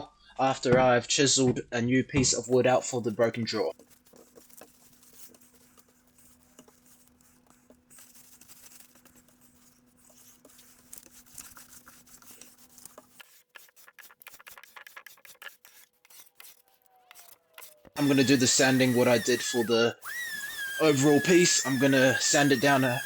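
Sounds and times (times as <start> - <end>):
scratching and rubbing on wood: 2.4 - 23.0.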